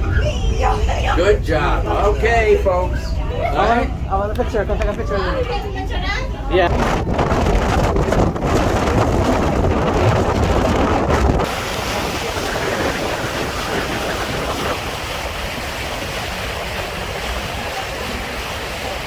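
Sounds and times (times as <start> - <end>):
rushing wind and water: 0.0 - 19.0
wind buffeting microphone: 0.0 - 19.0.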